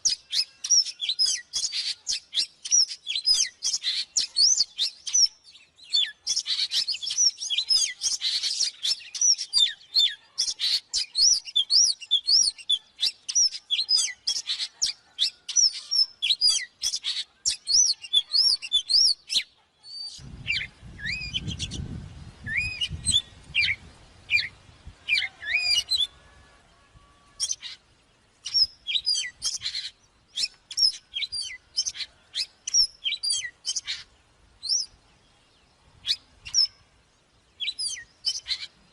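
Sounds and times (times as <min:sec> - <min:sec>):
bird singing whistled notes: 0:00.0 - 0:27.8, 0:28.4 - 0:36.9, 0:37.6 - 0:38.8.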